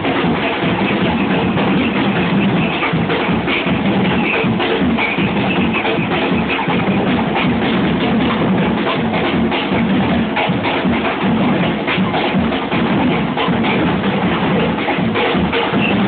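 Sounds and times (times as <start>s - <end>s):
large drums playing fast rhythm: 0.0s - 16.0s.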